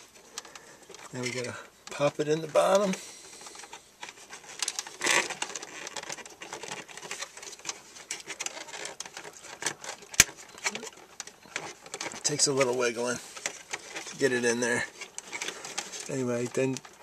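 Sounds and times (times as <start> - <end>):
plastic scraping in metal case: 0.0 - 17.0
small plastic clicks and rattles: 0.3 - 17.0.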